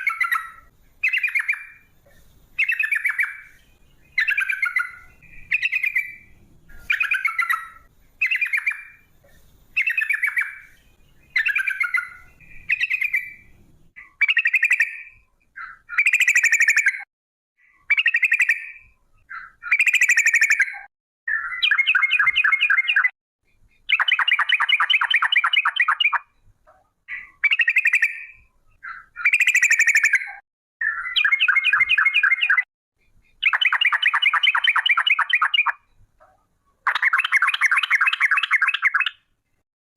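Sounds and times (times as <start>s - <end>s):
bulbul singing: 0.0s - 26.5s, 27.1s - 36.1s, 36.8s - 39.3s.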